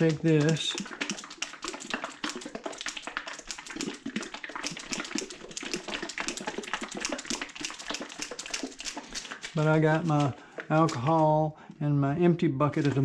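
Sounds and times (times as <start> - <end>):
liquid sloshing in plastic bottle: 0.0 - 11.8, 12.6 - 13.0.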